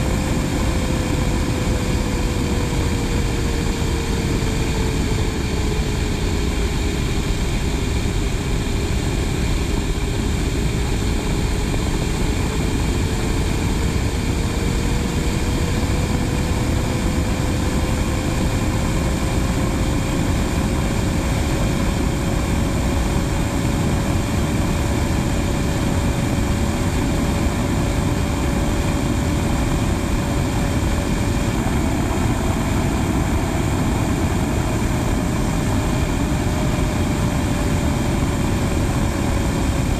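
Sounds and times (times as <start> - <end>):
high whine rising in pitch: 0.0 - 39.9
jet engines roaring: 0.0 - 39.9
wind on microphone: 0.0 - 39.9.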